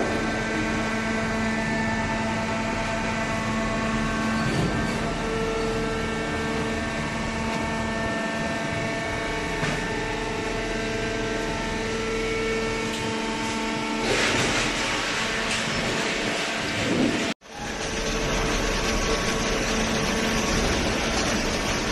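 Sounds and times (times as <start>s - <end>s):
baler machine humming: 0.0s - 21.9s.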